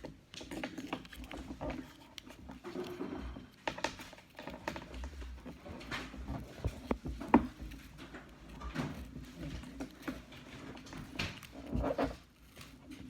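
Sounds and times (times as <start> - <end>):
paper rustling and tapping: 0.0 - 13.0.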